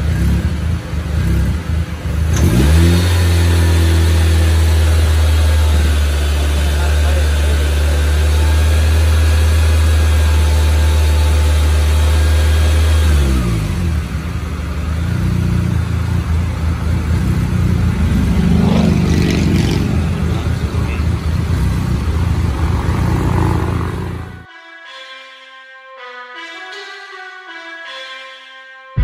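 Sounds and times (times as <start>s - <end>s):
car engine droning: 0.0s - 24.5s.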